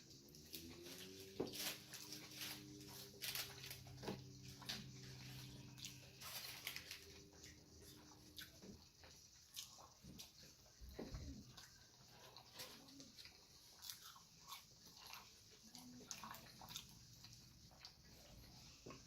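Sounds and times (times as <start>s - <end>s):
chewing with mouth clicks: 0.0s - 19.0s
low steady hum: 0.0s - 19.0s.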